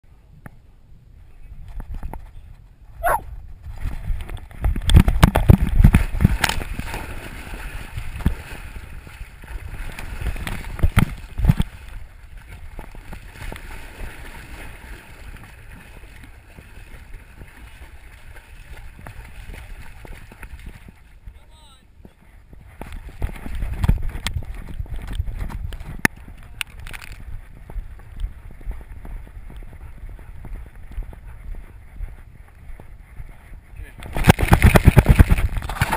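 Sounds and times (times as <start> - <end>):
water splashing and sloshing: 3.0 - 31.4, 32.4 - 35.9.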